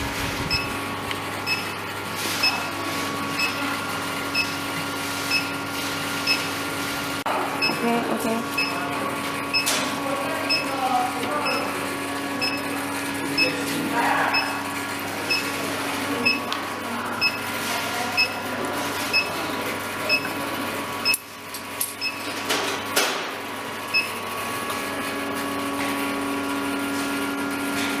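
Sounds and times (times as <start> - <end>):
induction furnace humming: 0.0 - 28.0.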